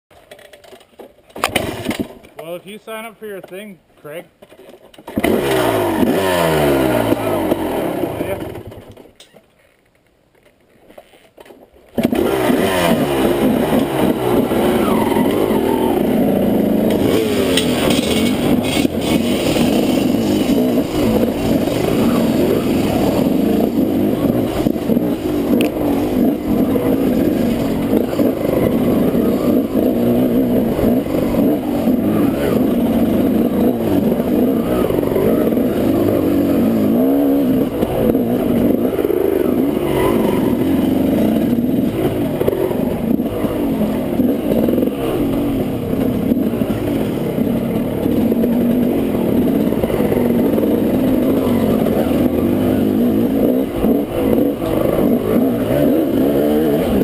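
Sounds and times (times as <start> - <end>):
dirt bike engine revving: 5.1 - 8.9, 12.0 - 57.0.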